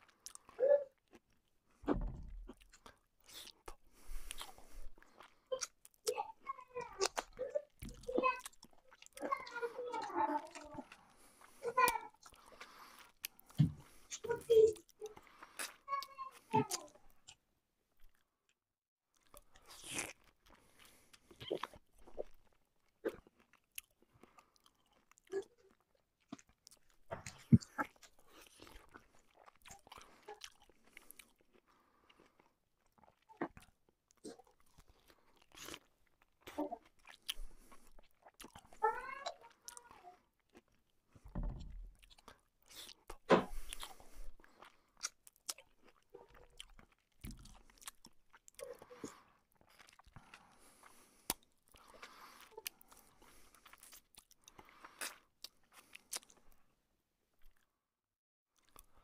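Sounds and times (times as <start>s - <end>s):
person chewing and lip-smacking: 0.0s - 17.4s, 19.1s - 56.6s, 58.6s - 59.0s.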